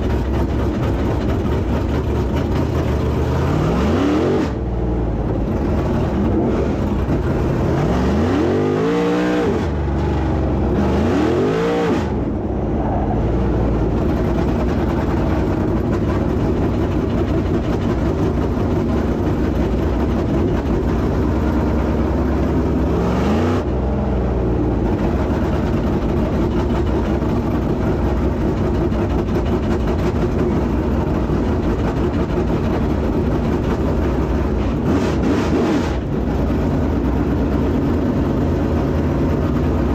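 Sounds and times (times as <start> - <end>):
race car engines running: 0.0 - 39.9.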